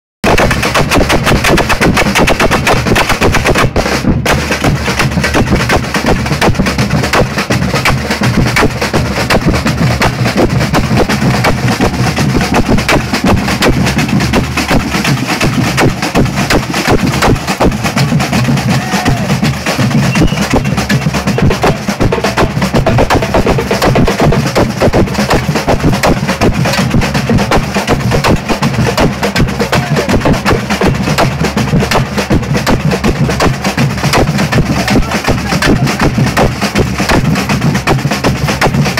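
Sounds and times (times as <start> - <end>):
bass drums: 0.2 - 38.9
small hand drums: 0.2 - 38.9
snare drums: 0.2 - 38.9.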